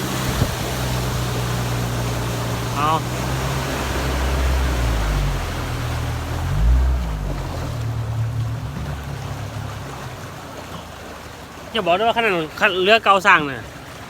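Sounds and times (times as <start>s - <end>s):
motorboat engine running: 0.0s - 14.0s
water washing: 0.0s - 14.0s.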